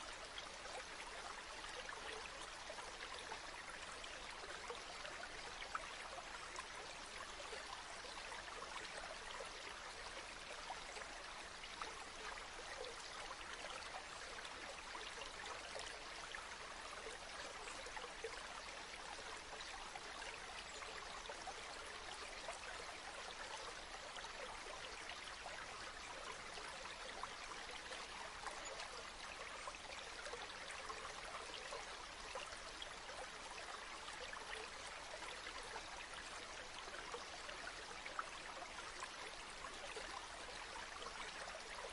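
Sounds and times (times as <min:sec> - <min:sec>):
river water flowing: 0:00.0 - 0:41.9.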